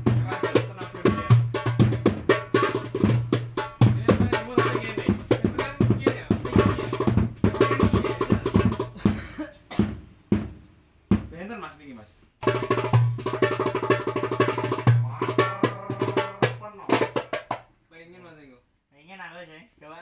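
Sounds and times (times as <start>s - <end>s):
goblet drum played fast: 0.0s - 11.4s, 12.4s - 17.7s.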